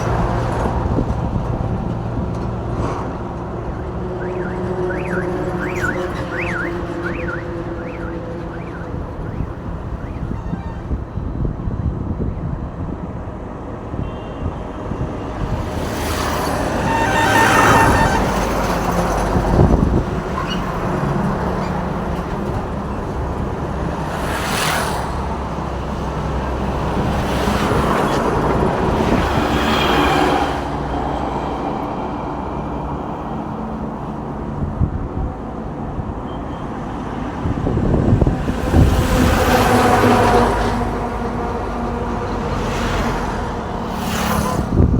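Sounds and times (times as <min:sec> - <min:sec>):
vehicles driving past: 0:00.0 - 0:44.9.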